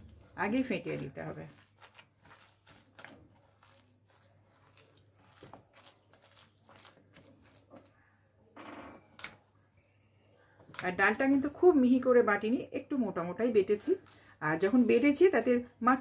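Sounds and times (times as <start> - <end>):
hand mixing thick batter: 0.0 - 8.5, 9.4 - 16.0.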